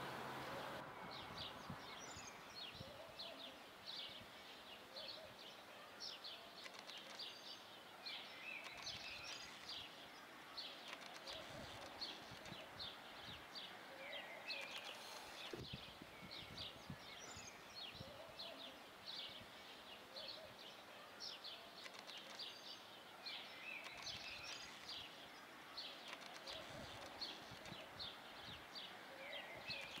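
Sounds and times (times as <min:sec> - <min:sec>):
outdoor background noise: 0:00.0 - 0:30.0
small birds chirping: 0:00.0 - 0:30.0.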